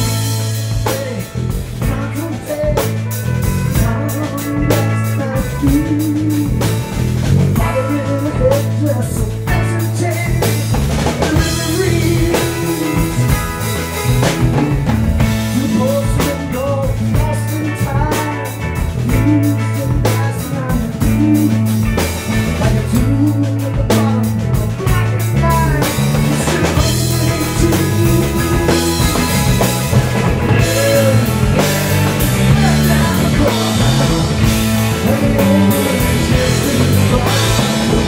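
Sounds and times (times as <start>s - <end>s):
bass guitar: 0.0s - 38.0s
drum kit: 0.0s - 38.0s
electric guitars: 0.0s - 38.0s.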